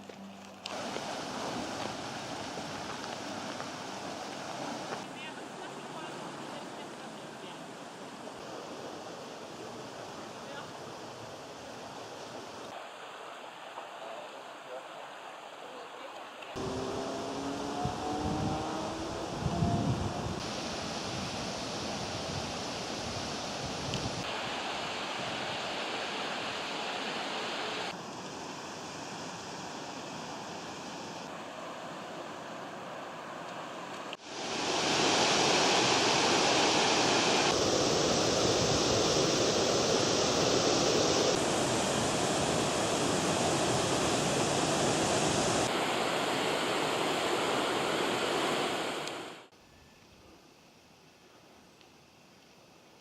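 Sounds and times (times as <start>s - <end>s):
flowing water rushing: 0.0s - 19.6s, 20.3s - 49.5s.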